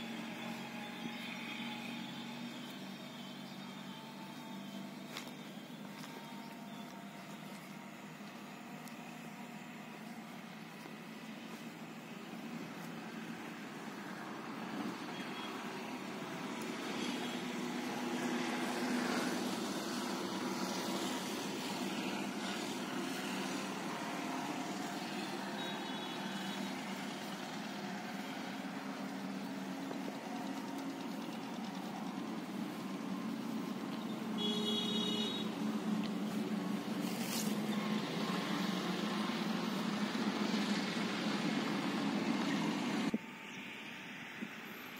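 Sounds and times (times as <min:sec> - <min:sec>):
vehicle engine running: 0:00.0 - 0:43.2.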